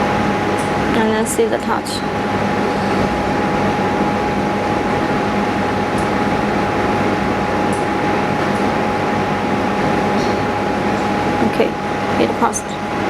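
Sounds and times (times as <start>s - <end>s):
machinery humming and whining: 0.0s - 13.0s.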